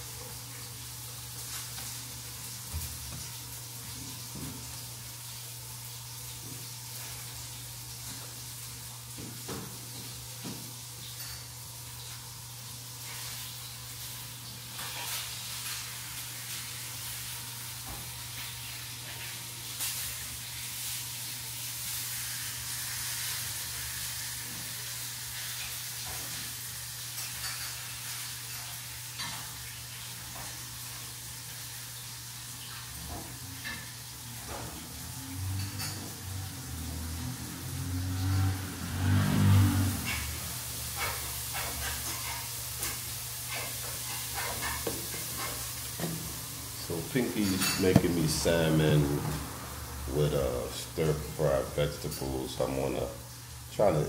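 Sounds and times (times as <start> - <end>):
food sizzling in frying pan: 0.0 - 53.8.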